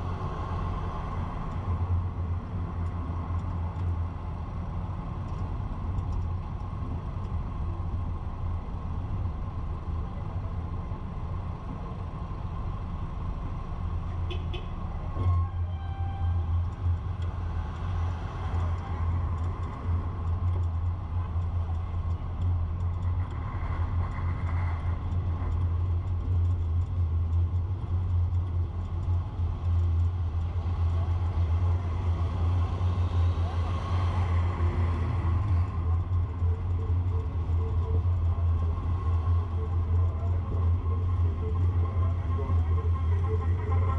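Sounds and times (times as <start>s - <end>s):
vehicle rumble in traffic: 0.0s - 43.9s.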